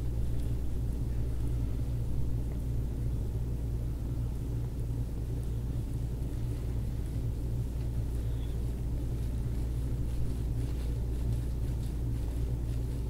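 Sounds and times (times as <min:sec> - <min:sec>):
low rumbling room hum: 0:00.0 - 0:13.0.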